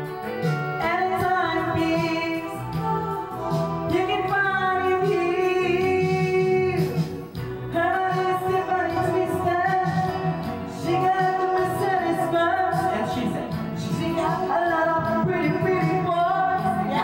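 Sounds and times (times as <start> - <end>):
woman singing with instruments: 0.7 - 7.1, 7.7 - 17.0.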